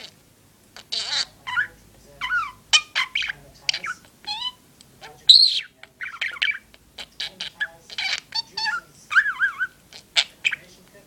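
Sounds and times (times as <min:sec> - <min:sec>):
budgerigar squawk: 0:00.8 - 0:10.7
budgerigar chirping and warbling: 0:00.8 - 0:10.8.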